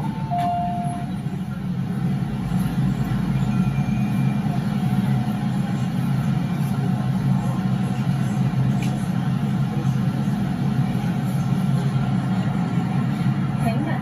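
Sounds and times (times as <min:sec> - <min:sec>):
train rumbling and humming: 0:00.0 - 0:14.0.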